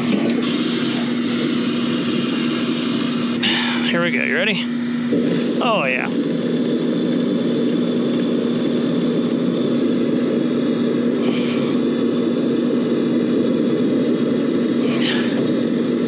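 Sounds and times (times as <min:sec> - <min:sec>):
furnace motor hum: 0:00.0 - 0:16.0.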